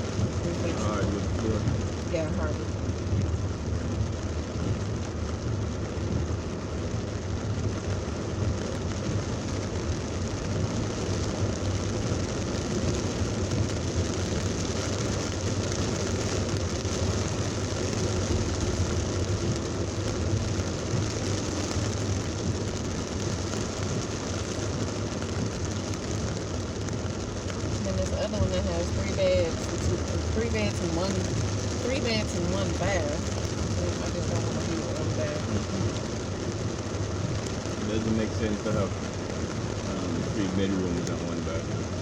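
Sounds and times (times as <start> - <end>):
heavy rain on a car: 0.0 - 42.0
road rumble: 0.0 - 42.0.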